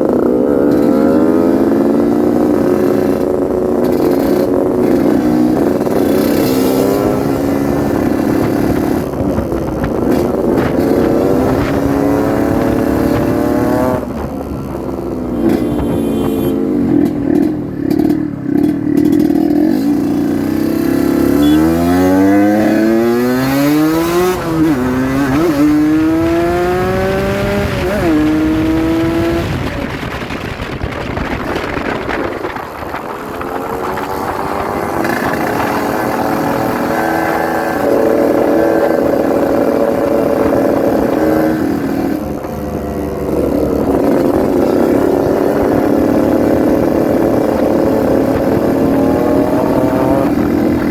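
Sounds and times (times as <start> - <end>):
two-stroke motorcycle engine: 0.0 - 50.9.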